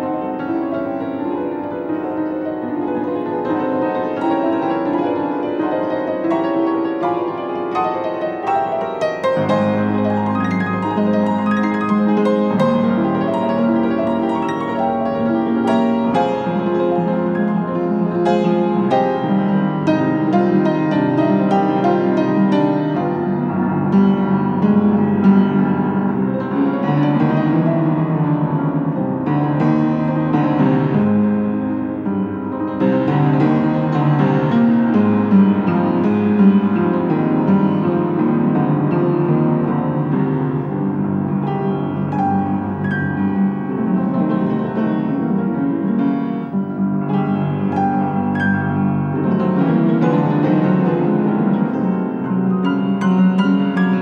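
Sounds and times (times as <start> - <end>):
piano background music: 0.0 - 54.0.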